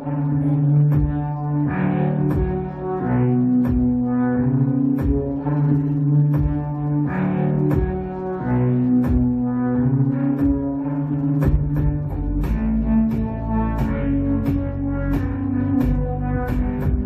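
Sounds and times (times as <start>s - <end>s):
keyboard bass notes and chords: 0.0s - 17.0s.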